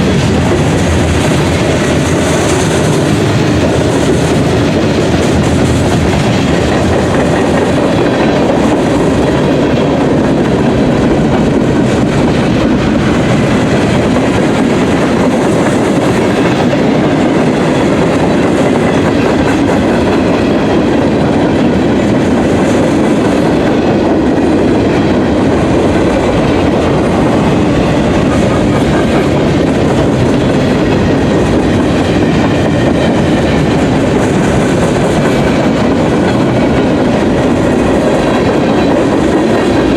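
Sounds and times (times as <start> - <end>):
freight train wheels on rail: 0.0 - 39.9.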